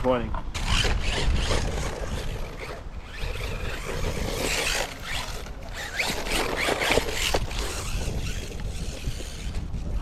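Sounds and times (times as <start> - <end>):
toy car tyres scrabbling: 0.5 - 10.0
electric motor whining: 0.6 - 10.0.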